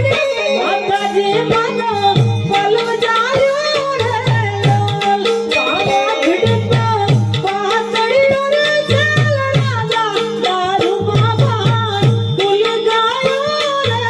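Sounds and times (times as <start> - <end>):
tabla drumming: 0.0 - 14.0.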